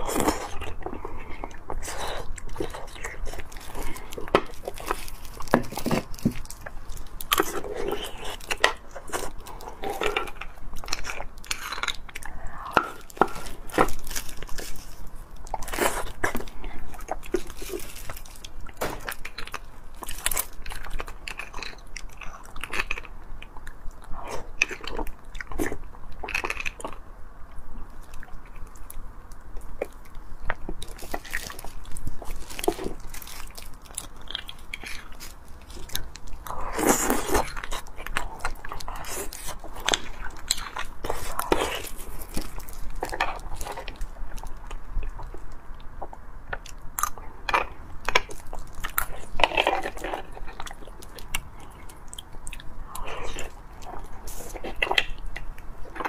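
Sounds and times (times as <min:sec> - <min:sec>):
chewing: 0:00.0 - 0:56.0.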